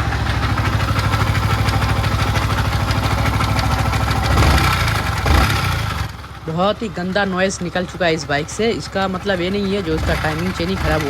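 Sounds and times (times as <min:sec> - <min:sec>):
harsh mechanical engine noise: 0:00.0 - 0:11.0
motorcycle engine idling: 0:00.0 - 0:11.0.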